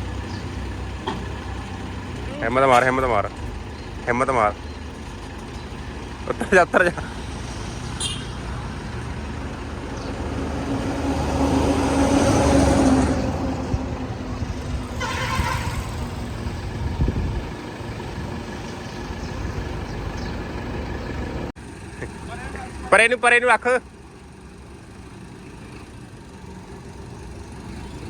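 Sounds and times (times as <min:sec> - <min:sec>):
tractor engine under load: 0:00.0 - 0:28.0.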